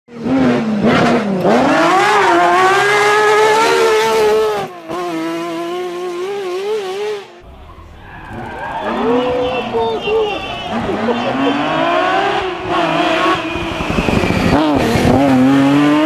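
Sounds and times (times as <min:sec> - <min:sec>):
rally car engine revving: 0:00.1 - 0:16.0.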